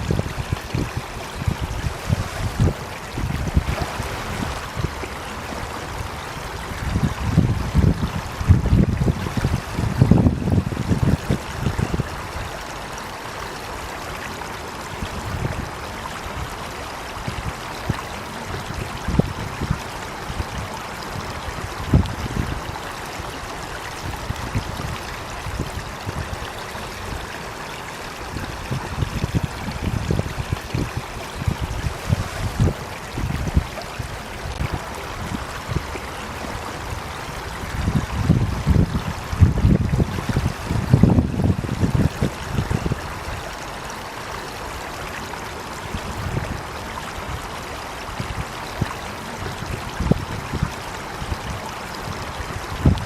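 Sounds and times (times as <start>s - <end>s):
water flowing: 0.0s - 53.0s.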